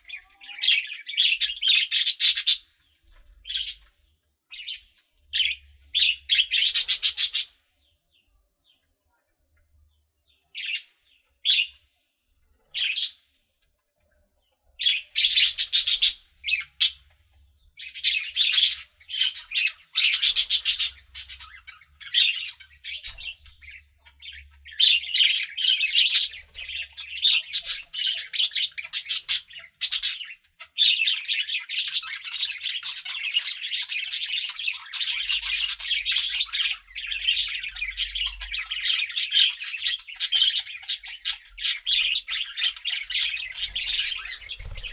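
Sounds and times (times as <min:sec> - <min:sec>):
budgerigars chirping and squawking: 0:00.0 - 0:03.9, 0:04.5 - 0:07.9, 0:10.6 - 0:11.8, 0:12.5 - 0:13.3, 0:14.8 - 0:44.9.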